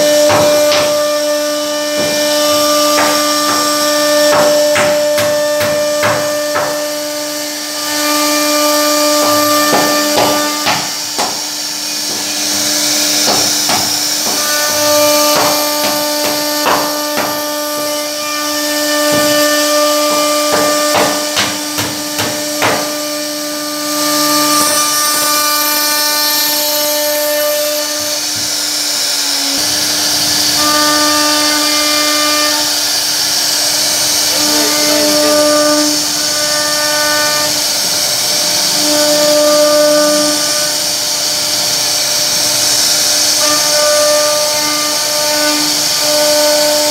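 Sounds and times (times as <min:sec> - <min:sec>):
router spindle running high-pitched: 0:00.0 - 0:46.9.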